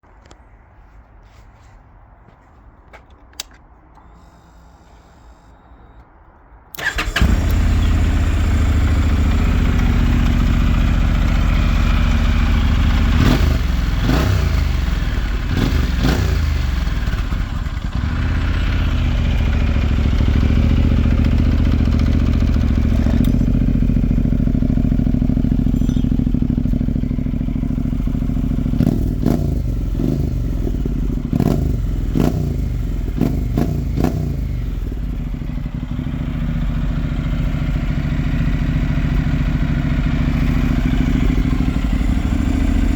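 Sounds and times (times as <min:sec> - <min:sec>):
motorcycle engine idling: 0:06.8 - 0:42.9.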